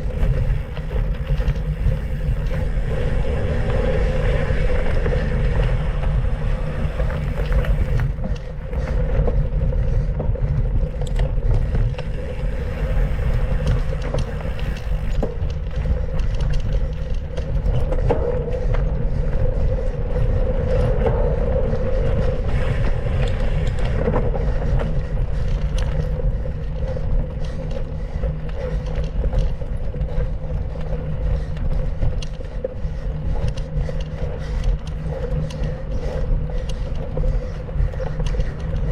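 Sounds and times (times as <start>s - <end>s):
bike rattling: 0.0s - 38.9s
wind buffeting microphone: 0.0s - 38.9s.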